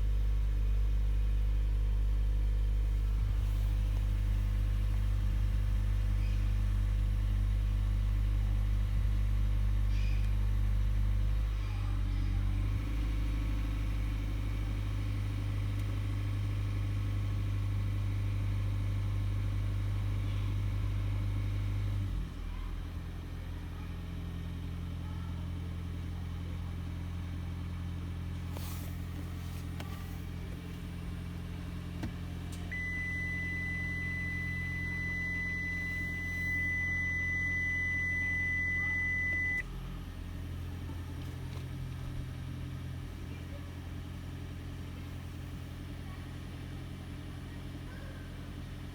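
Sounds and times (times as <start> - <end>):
car drivetrain hum: 0.0 - 48.9.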